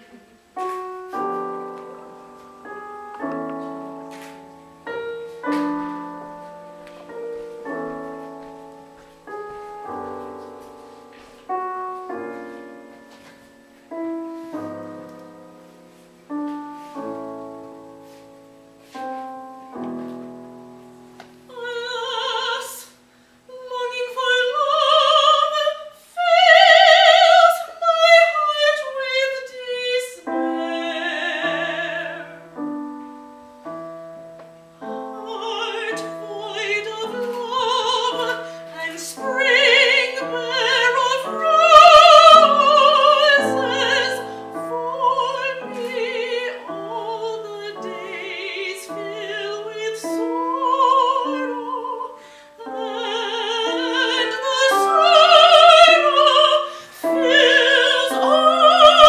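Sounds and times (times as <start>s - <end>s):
piano playing slow chords: 0.0s - 24.0s, 27.9s - 59.0s.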